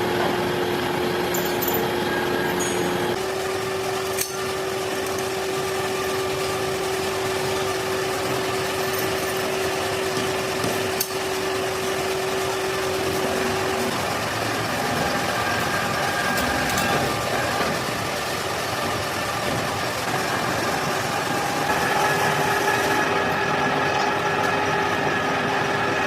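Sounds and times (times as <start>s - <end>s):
workshop machinery running: 0.0s - 26.0s.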